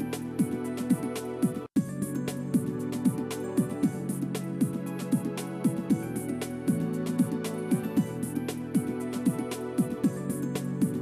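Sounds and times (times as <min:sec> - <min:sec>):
steady drum beat: 0:00.0 - 0:11.0.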